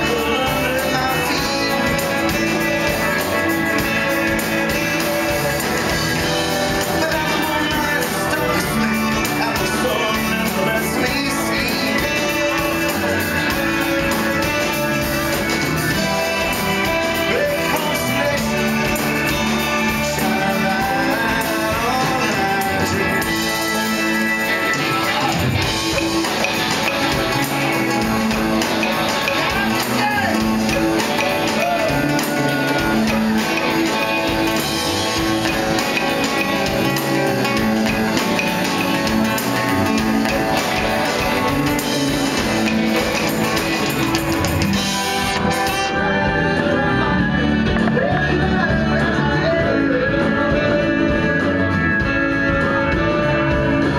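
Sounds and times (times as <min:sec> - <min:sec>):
person singing: 0:00.0 - 0:53.9.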